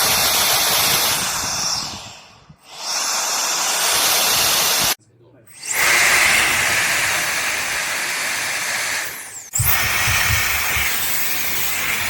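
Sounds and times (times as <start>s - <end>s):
electric air duster whining: 0.0s - 12.0s.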